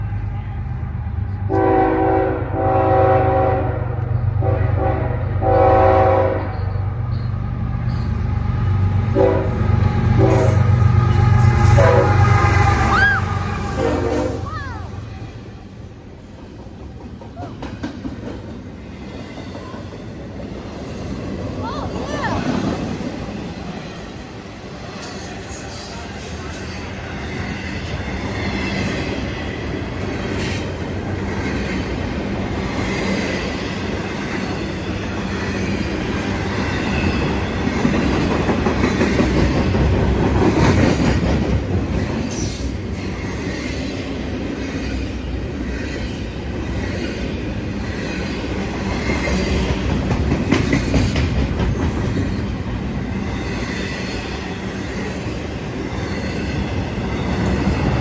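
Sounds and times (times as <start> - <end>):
train cars rumbling and clacking: 0.0 - 58.0.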